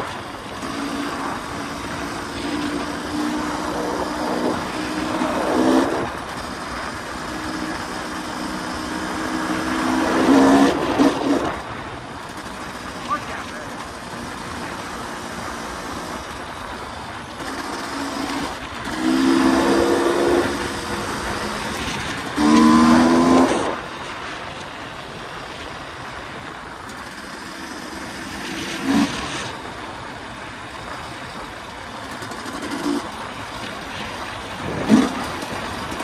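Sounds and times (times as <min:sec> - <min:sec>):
dirt bike engine revving: 0:00.0 - 0:23.9, 0:26.9 - 0:30.2, 0:31.6 - 0:36.0.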